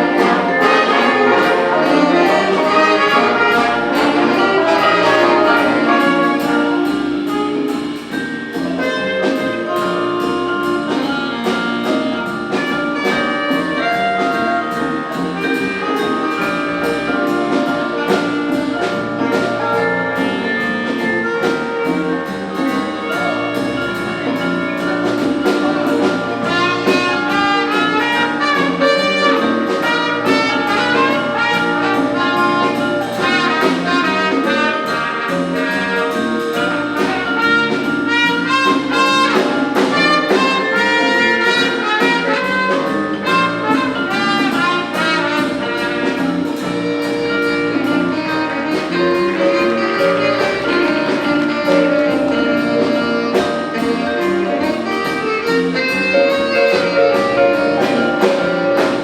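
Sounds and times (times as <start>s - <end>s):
jazz big band playing: 0.0s - 59.0s.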